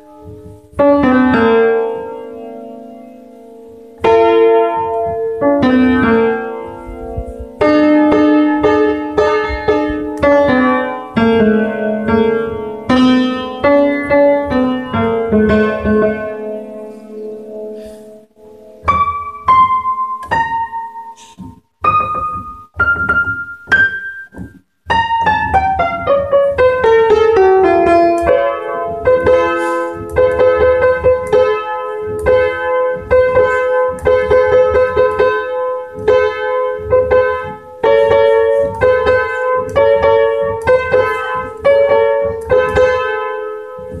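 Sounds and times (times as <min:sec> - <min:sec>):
piano playing: 0:00.0 - 0:44.0.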